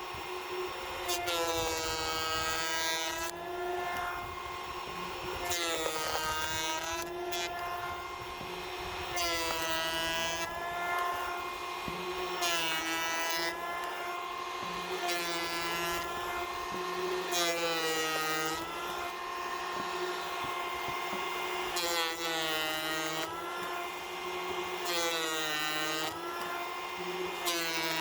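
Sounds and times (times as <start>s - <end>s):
electric hand planer whining: 0.0s - 28.0s
planer blades cutting wood: 0.0s - 28.0s.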